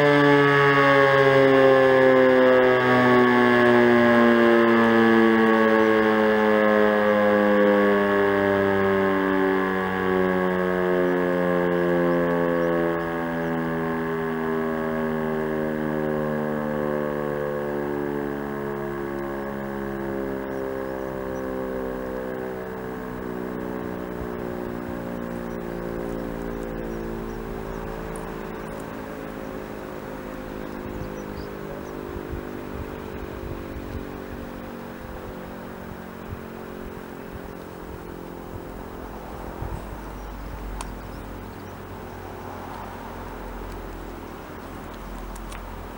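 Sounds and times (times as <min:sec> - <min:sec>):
civil defence siren winding down: 0:00.0 - 0:45.9.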